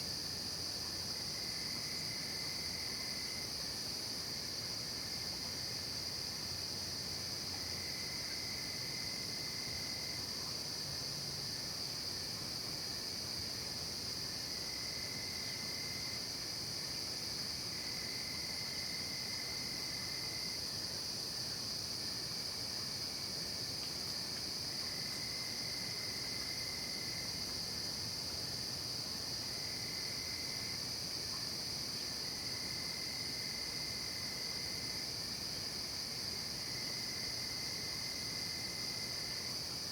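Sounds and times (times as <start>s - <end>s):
crickets trilling: 0.0s - 39.9s
lower insect trill: 0.0s - 39.9s.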